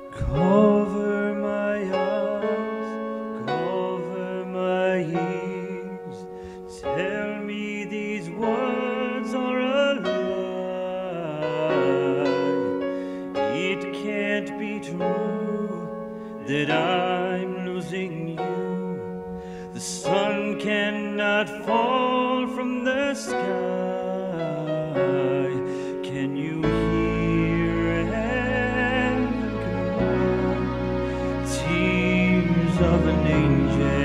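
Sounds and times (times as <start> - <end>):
man singing opera with vibrato: 0.0 - 34.0
sustained keyboard accompaniment: 0.0 - 34.0.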